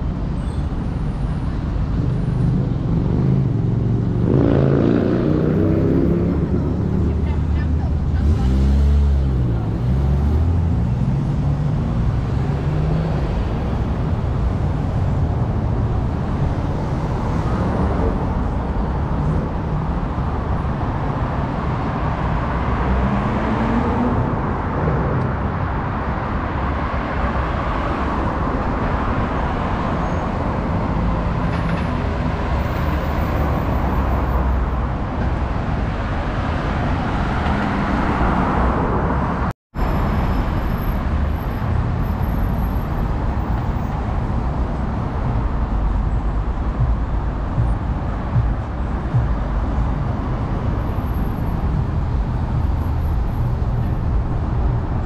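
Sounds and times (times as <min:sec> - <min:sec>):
busy street traffic: 0:00.0 - 0:55.0.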